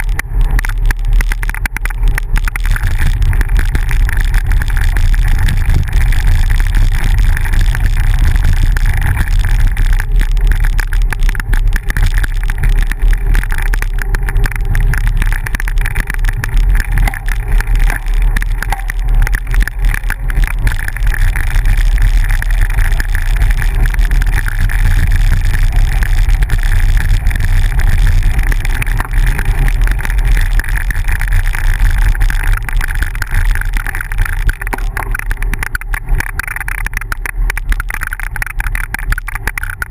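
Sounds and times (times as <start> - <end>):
tyres rolling over dirt road: 0.0 - 39.9.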